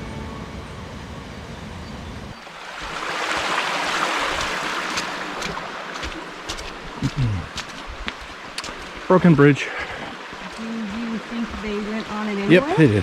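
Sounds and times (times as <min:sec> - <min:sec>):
creek water rushing: 0:02.3 - 0:13.0.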